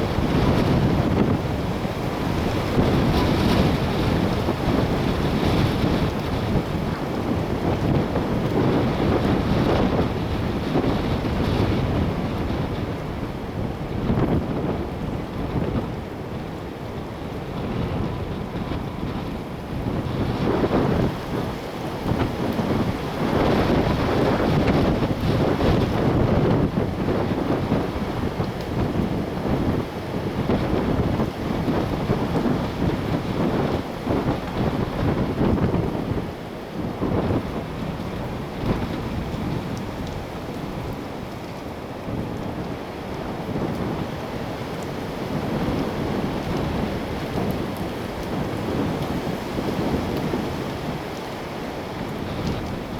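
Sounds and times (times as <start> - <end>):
wind buffeting microphone: 0.0 - 52.9
wind gusting through trees: 0.0 - 52.9.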